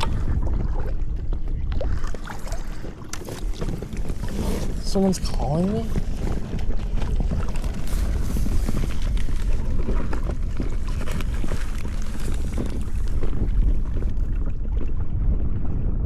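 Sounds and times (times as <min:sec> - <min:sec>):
water and canoe hull noise: 0:00.0 - 0:16.0
wind rumbling on microphone: 0:00.0 - 0:16.0.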